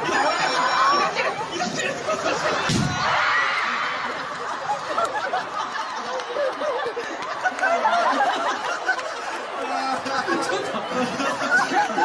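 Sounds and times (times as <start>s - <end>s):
crowd chattering and laughing: 0.0s - 12.0s.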